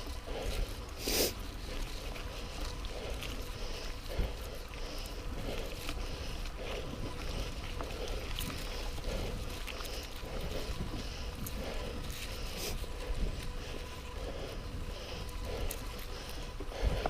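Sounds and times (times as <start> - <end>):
person panting heavily: 0.0 - 17.0
wind rumble on microphone: 0.0 - 17.0.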